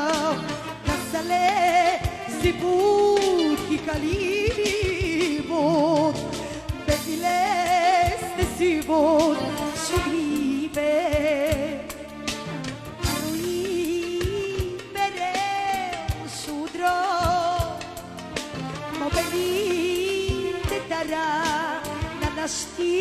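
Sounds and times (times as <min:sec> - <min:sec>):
lead melody with vibrato: 0:00.0 - 0:22.9
bass guitar: 0:00.0 - 0:23.0.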